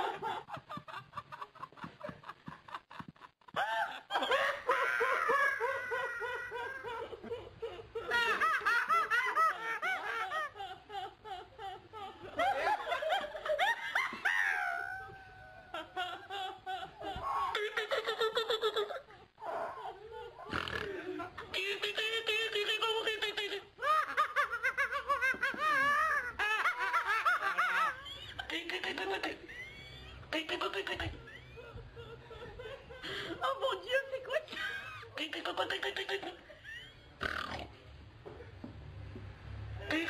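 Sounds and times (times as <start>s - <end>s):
people laughing: 0.0s - 37.2s.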